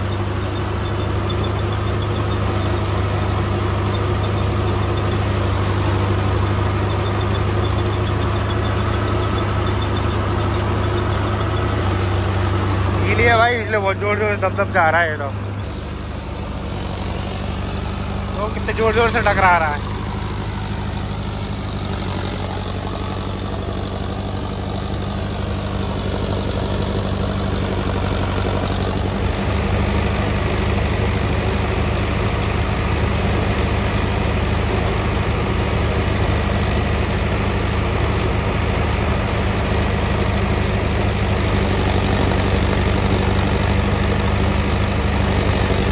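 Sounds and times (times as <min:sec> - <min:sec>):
diesel tractor engine running: 0:00.0 - 0:45.9
straw rushing through thresher: 0:00.0 - 0:45.9
thresher drum whirring: 0:00.0 - 0:45.9.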